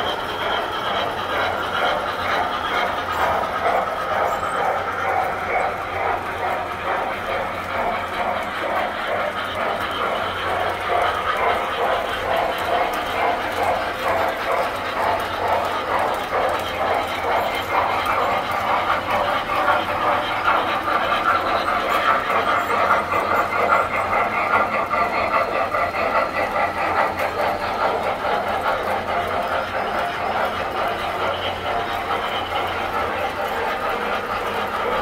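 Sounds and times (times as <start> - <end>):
model trains rattling on metal track: 0.0 - 35.0.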